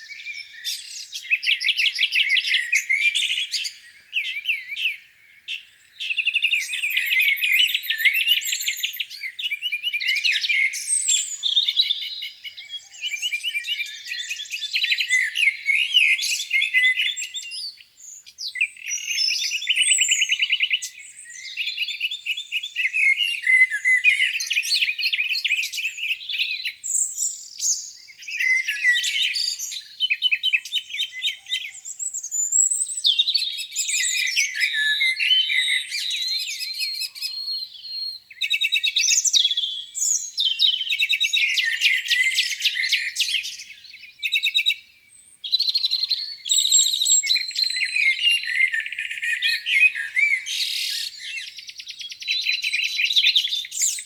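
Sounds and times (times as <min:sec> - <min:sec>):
songbirds dawn chorus: 0:00.0 - 0:54.0.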